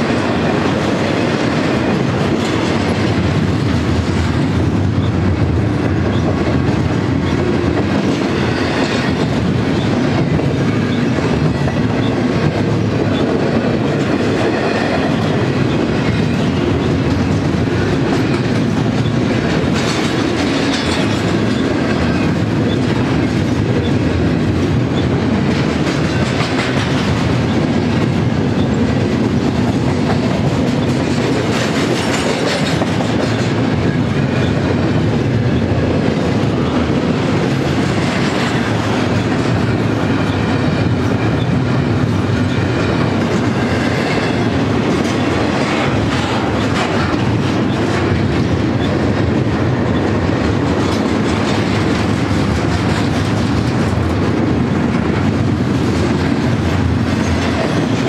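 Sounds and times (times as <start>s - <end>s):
freight train wheels rumbling: 0.0s - 58.0s
high-pitched wheel-on-rail noise: 0.0s - 58.0s.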